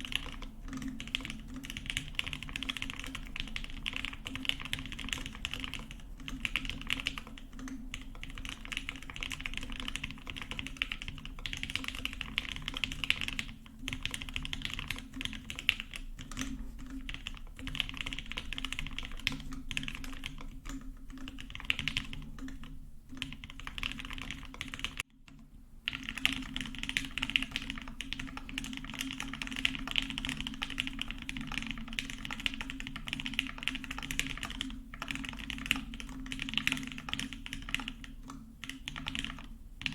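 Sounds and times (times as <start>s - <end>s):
fast mechanical keyboard typing: 0.0s - 25.0s, 25.9s - 39.9s.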